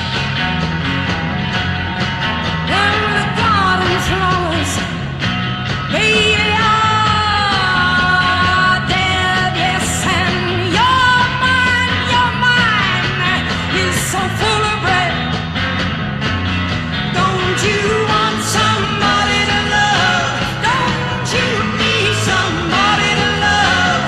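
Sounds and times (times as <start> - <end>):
drums: 0.0 - 24.0
psychedelic rock instrumental: 0.0 - 24.0
wavering lead guitar lines: 0.0 - 24.0.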